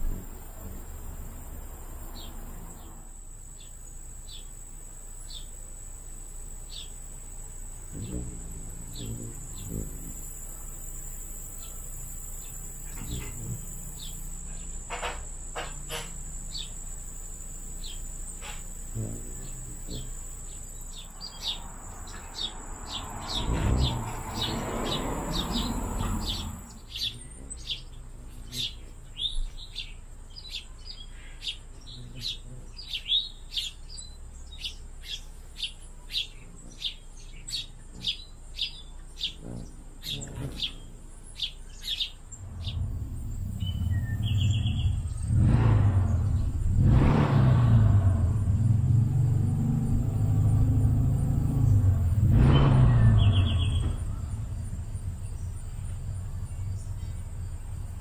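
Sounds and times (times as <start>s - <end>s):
insect trill: 0.0s - 58.0s
small birds chirping: 0.0s - 58.0s.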